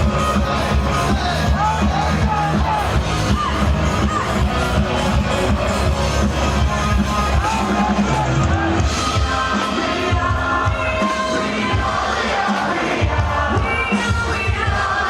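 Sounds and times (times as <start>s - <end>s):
crowd singing and cheering: 0.0s - 15.0s
live band music: 0.0s - 15.0s.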